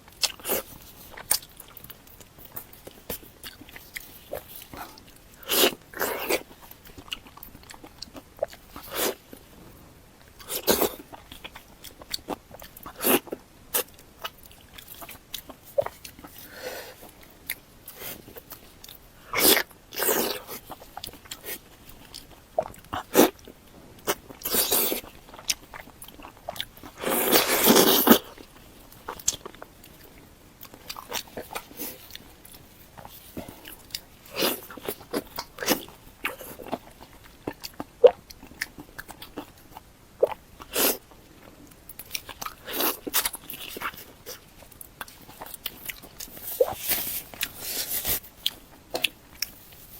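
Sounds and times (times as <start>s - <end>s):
chewing with wet mouth noises: 0.0s - 49.9s.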